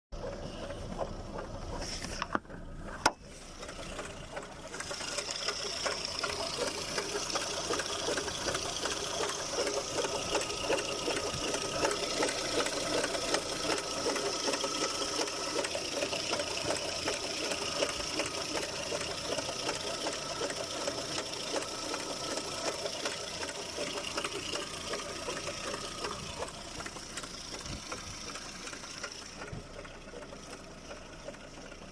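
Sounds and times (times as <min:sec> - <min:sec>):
engine mechanical clatter: 0:00.1 - 0:31.9.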